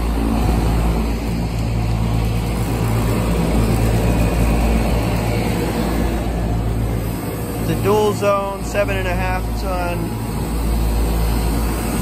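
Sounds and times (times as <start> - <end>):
heat pump units humming: 0.0 - 12.0.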